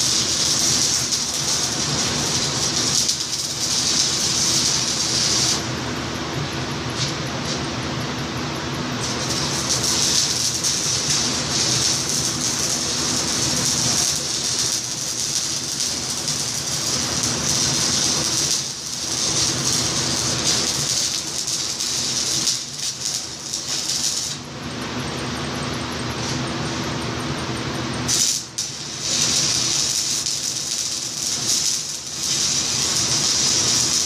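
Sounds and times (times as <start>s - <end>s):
welding arc crackling and sizzling: 0.0s - 34.0s.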